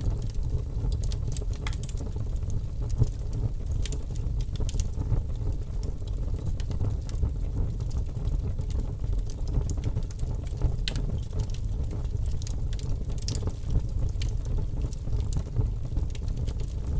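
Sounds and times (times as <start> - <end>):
wood fire burning: 0.0 - 16.9.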